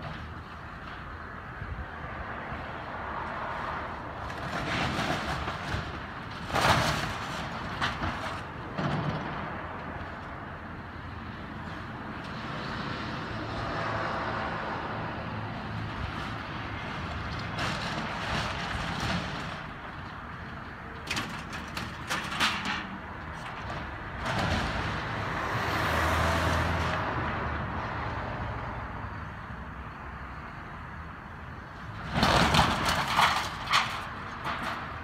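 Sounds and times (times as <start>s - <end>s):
excavator machine noise: 3.5s - 29.5s, 31.3s - 35.0s.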